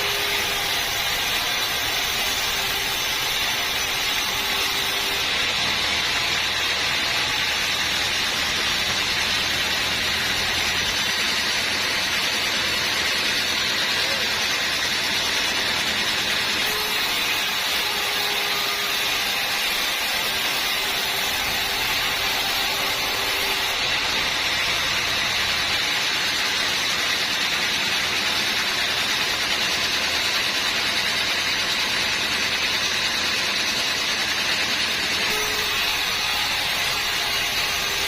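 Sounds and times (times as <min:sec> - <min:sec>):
sawmill machinery sawing wood: 0:00.0 - 0:38.0.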